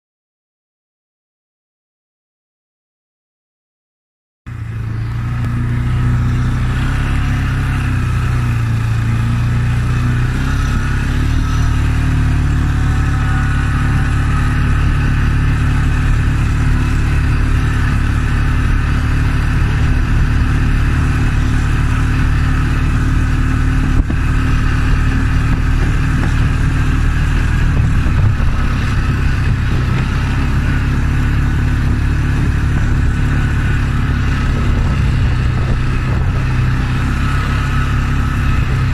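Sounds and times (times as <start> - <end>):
atv engine droning: 4.5 - 38.9.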